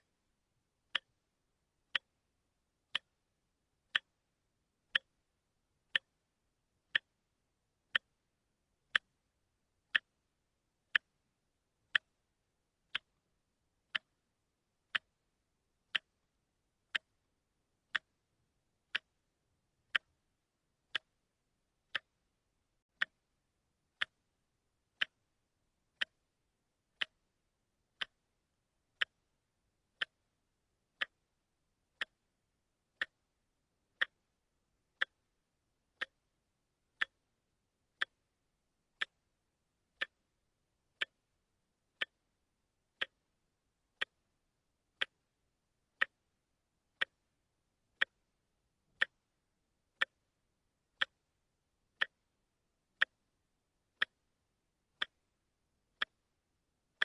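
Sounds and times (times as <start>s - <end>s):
watch ticking: 0.8s - 11.2s, 11.8s - 37.3s, 37.9s - 38.4s, 39.0s - 47.4s, 48.0s - 57.0s.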